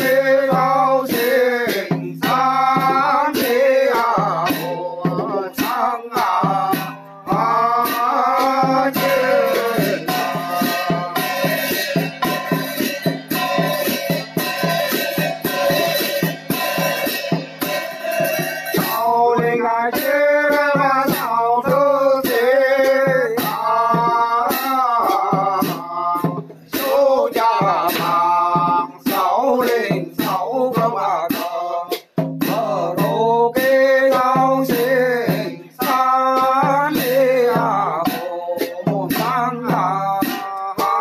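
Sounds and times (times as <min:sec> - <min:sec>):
man chanting: 0:00.0 - 0:12.1, 0:18.7 - 0:41.0
quick steady rattling beat: 0:00.0 - 0:41.0.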